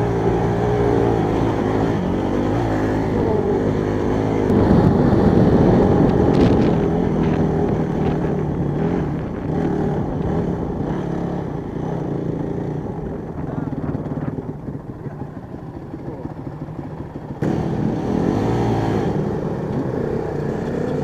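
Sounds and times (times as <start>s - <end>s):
motorcycle engine under throttle: 0.0s - 21.0s.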